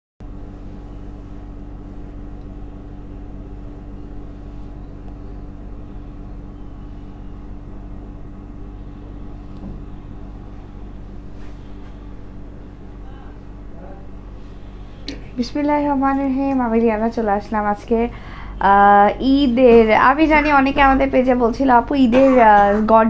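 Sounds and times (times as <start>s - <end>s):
low mechanical hum: 0.2s - 23.0s.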